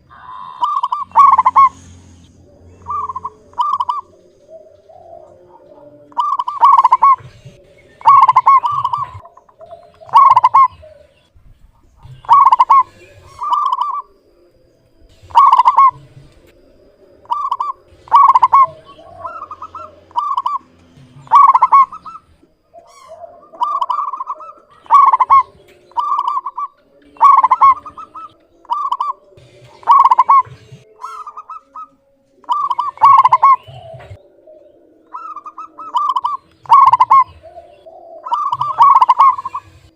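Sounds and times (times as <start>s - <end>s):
dove cooing: 0.0s - 2.0s, 2.6s - 39.9s.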